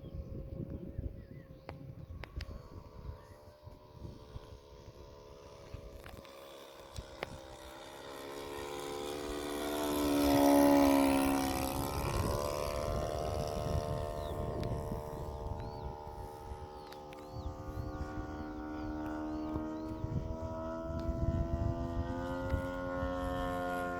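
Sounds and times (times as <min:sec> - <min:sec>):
model plane flying past: 0:00.0 - 0:23.9.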